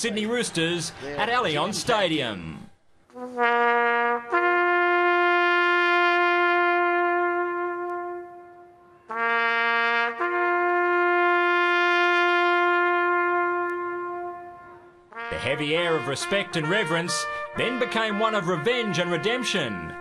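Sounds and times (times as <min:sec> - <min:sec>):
bugle playing slow notes: 0:03.1 - 0:20.0.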